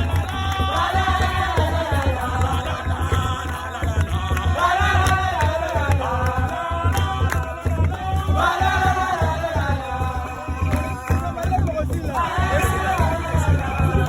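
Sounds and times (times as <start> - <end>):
person singing: 0.0 - 14.0
steady drum beat: 0.0 - 14.0.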